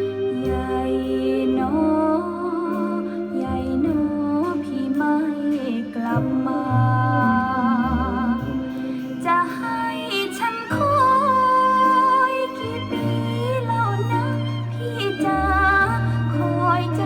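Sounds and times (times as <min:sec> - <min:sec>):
bass line: 0:00.0 - 0:09.8, 0:12.6 - 0:17.0
person singing with vibrato: 0:00.0 - 0:17.0.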